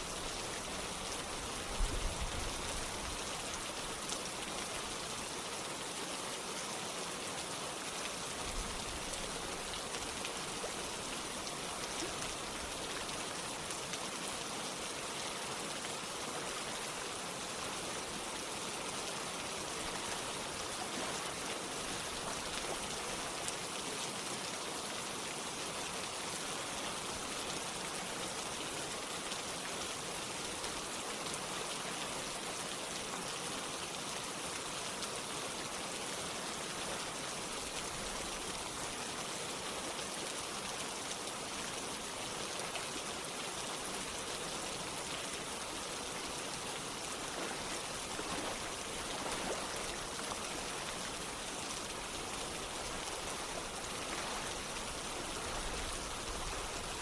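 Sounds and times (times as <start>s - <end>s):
running water: 0.0s - 57.0s
steady rain falling: 0.0s - 57.0s.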